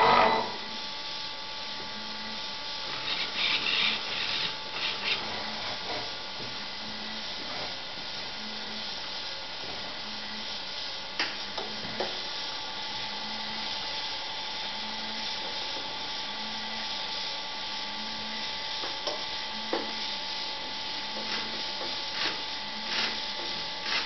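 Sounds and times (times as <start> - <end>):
electrical hum and hiss: 0.0 - 24.0.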